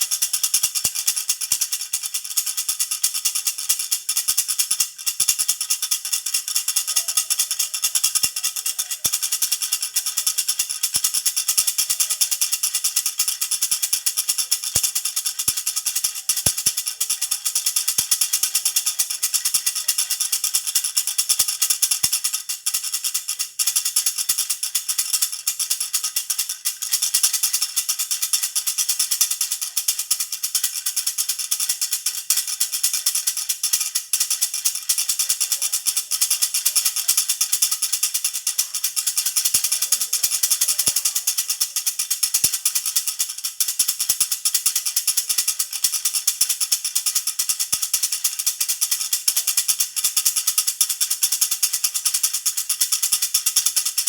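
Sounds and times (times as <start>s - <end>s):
rattle toy shaken: 0.0s - 54.0s.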